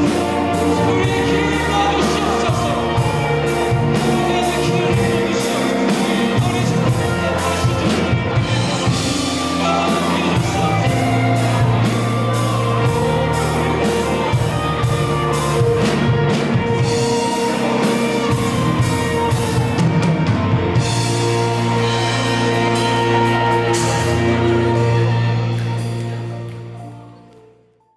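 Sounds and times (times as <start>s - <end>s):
drum kit steady beat: 0.0s - 26.4s
guitar bass and keyboard chords: 0.0s - 27.8s.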